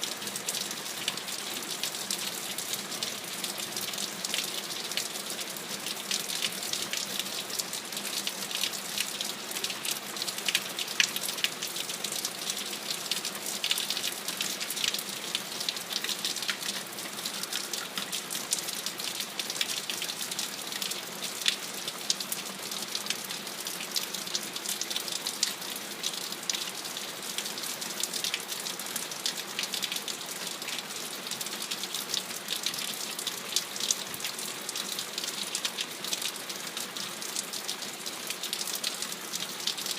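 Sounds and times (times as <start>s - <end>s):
steady rain with sharp drops: 0.0s - 39.9s.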